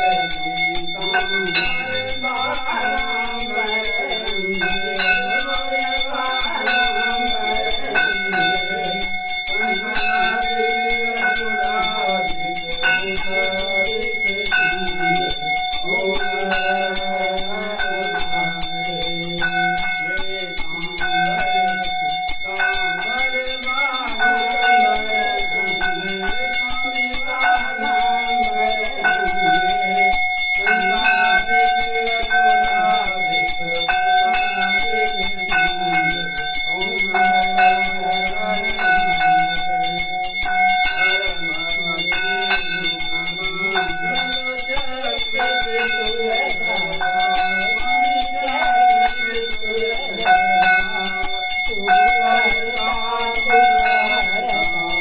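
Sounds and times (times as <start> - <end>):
bell rung rapidly: 0.0 - 55.0
voices singing: 0.0 - 55.0.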